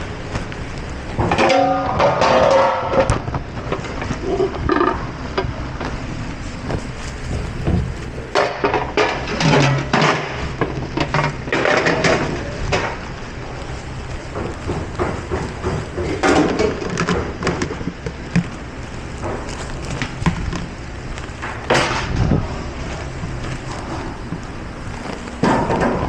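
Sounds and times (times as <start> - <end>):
low hum of kitchen machinery: 0.0 - 26.0.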